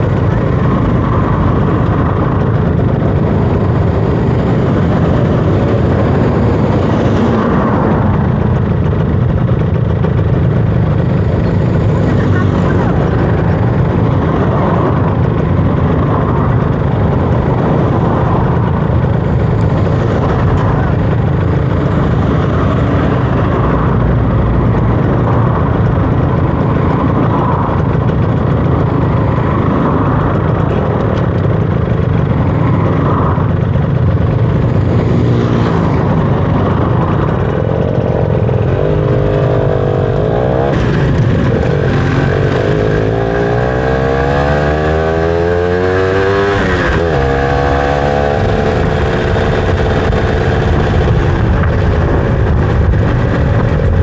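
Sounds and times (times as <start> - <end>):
motorcycle engine accelerating: 0.0 - 54.0
steady rushing noise: 0.0 - 54.0.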